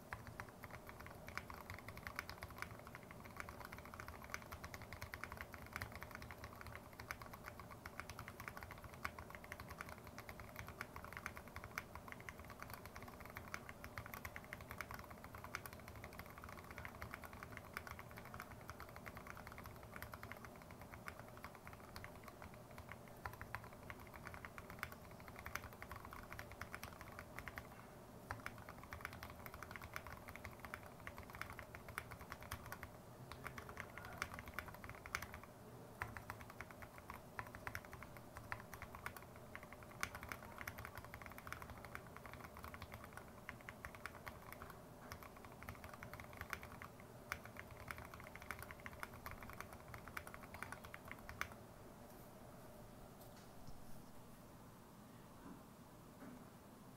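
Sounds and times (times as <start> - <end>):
mechanical keyboard typing: 0.0 - 51.6.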